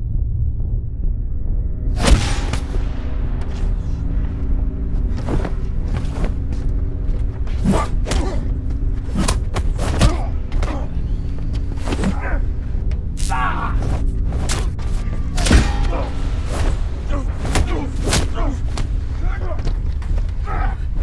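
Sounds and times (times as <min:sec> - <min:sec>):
deep rumble: 0:00.0 - 0:21.0
sustained low music notes: 0:00.0 - 0:21.0.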